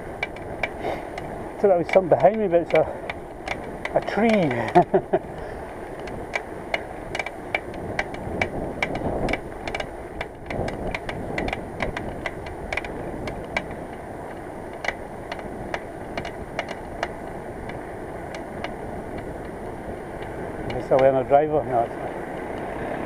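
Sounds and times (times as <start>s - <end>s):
bicycle clicks and rattles: 0.0s - 23.0s
road and wind noise: 0.0s - 23.0s.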